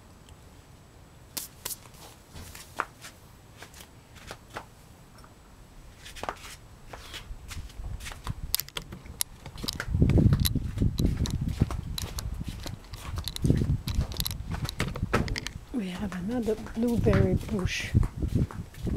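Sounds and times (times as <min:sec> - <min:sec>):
clicks and rustles of garden plants: 0:01.4 - 0:05.3, 0:06.0 - 0:18.9.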